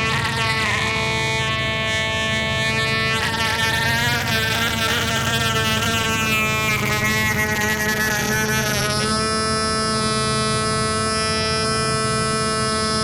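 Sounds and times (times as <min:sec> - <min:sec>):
buzzy synthesizer drone: 0:00.0 - 0:13.0.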